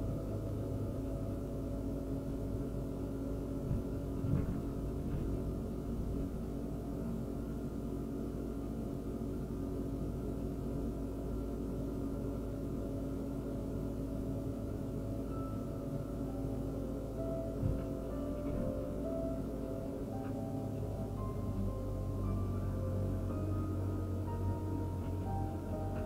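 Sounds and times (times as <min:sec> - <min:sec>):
droning hum of held tones: 0:00.0 - 0:26.0
van engine rumble: 0:00.0 - 0:26.0.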